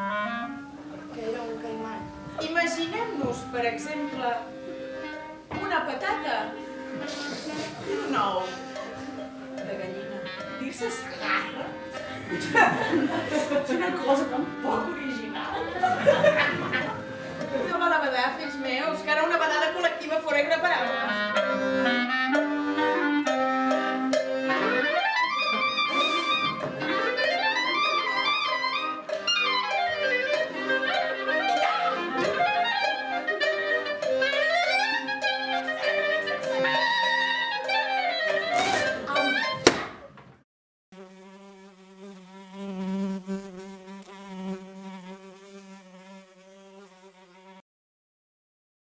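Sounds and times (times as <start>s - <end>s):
accordion chords: 0.0s - 39.3s
clarinet melody: 0.0s - 39.6s.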